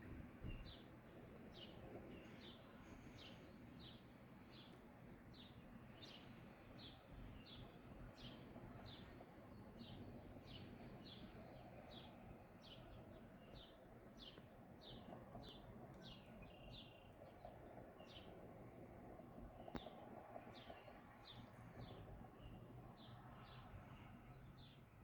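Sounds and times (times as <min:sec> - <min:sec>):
faint outdoor background noise: 0:00.0 - 0:25.0.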